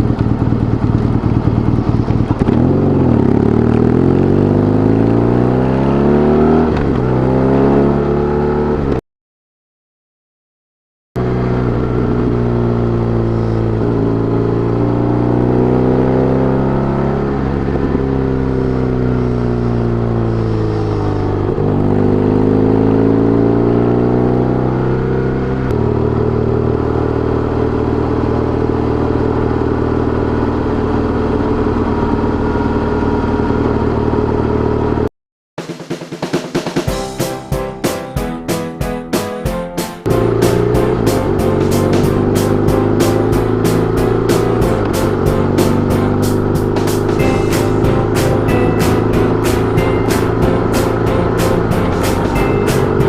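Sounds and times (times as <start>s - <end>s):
motorcycle engine revving: 0.0s - 9.0s, 11.2s - 35.0s, 40.0s - 53.0s.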